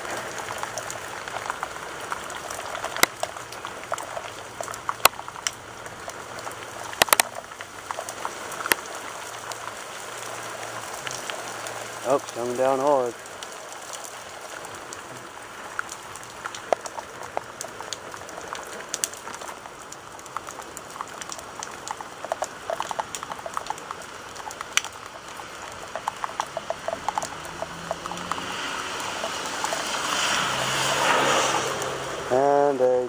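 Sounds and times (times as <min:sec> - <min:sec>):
car passing on wet street: 0:00.0 - 0:33.0
heavy rain: 0:00.0 - 0:33.0
raindrops ticking on surfaces: 0:00.0 - 0:33.0.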